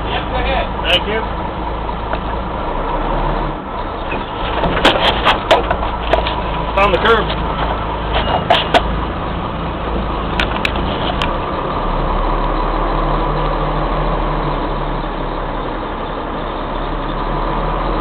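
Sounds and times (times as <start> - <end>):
fire engine running: 0.0 - 18.0.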